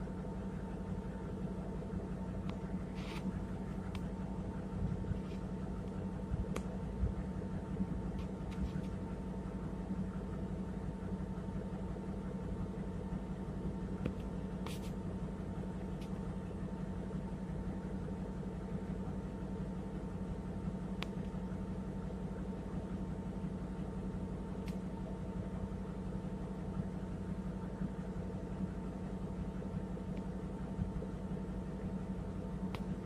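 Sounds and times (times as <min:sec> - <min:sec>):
train car hum and rumble: 0:00.0 - 0:33.0.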